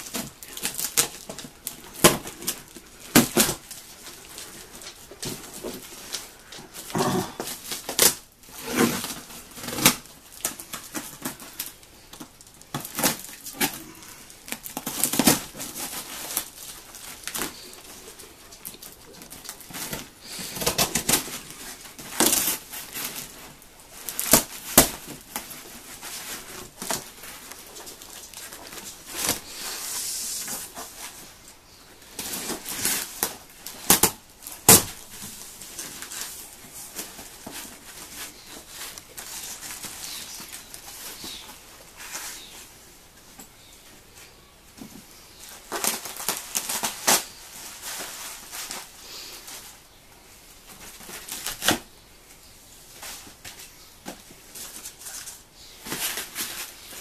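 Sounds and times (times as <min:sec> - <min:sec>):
cardboard and tape tearing: 0:00.0 - 0:31.2, 0:32.1 - 0:42.6, 0:45.4 - 0:49.0, 0:50.8 - 0:51.9.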